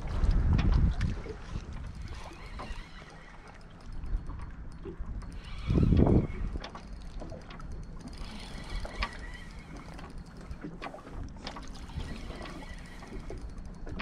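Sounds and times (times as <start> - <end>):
low wind rumble: 0.0 - 14.0
water lapping against boat hull: 0.0 - 14.0
light clicks and taps: 0.5 - 14.0.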